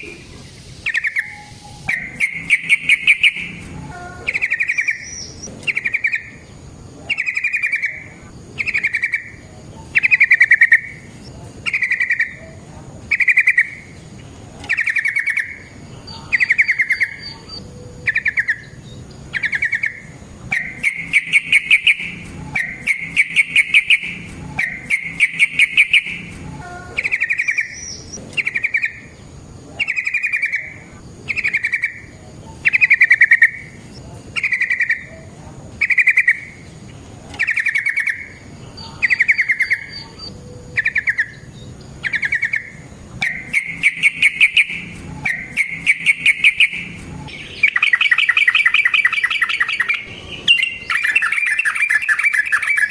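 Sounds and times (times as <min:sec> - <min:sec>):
bulbul singing trilled phrases: 0:00.0 - 0:52.9.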